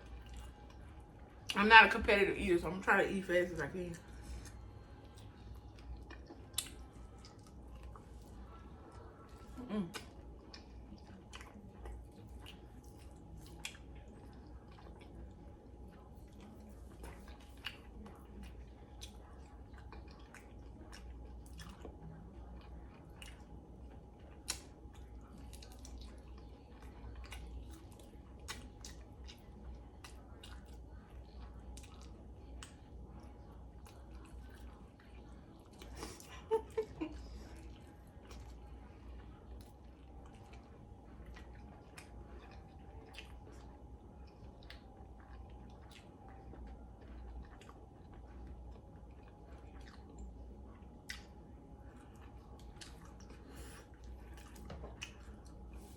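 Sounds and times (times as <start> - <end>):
faint steady hum: 0.0 - 55.9
person chewing chicken wings: 4.3 - 55.9.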